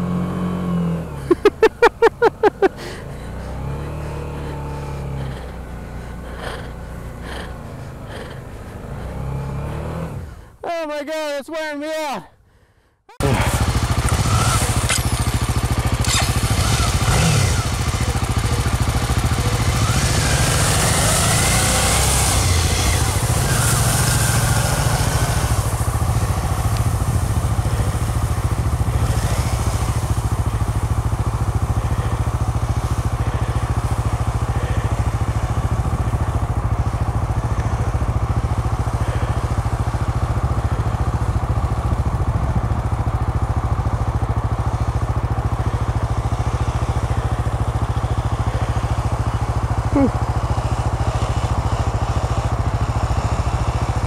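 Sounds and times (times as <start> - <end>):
motorcycle engine running: 0.0 - 10.6, 13.1 - 54.0.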